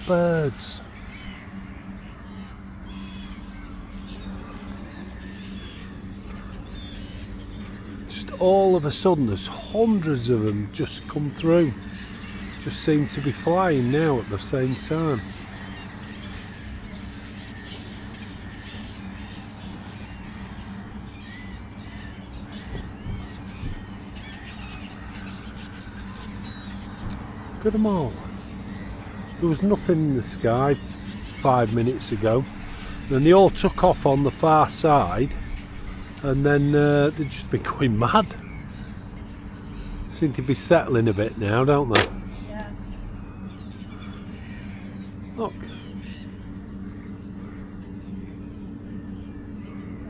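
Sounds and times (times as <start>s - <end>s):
flock of birds calling: 0.0s - 50.0s
steady low hum: 0.0s - 50.0s.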